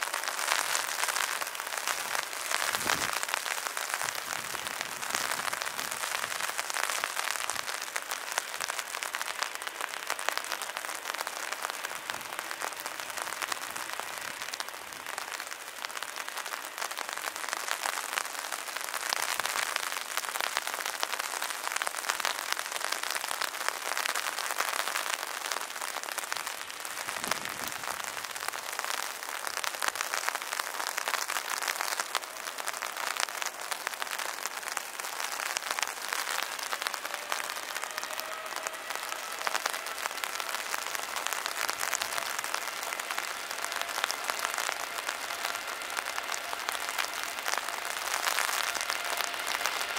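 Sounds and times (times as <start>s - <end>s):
heavy rain pattering: 0.0s - 49.9s.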